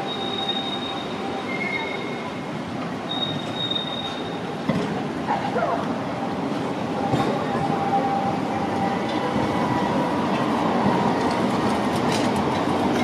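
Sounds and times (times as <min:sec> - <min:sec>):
tram wheels rumbling on track: 0:00.0 - 0:13.0.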